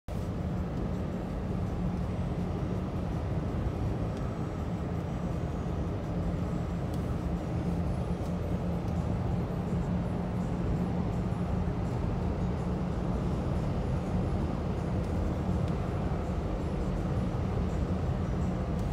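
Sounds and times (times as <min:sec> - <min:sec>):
car engine and tyre rumble: 0:00.0 - 0:18.9.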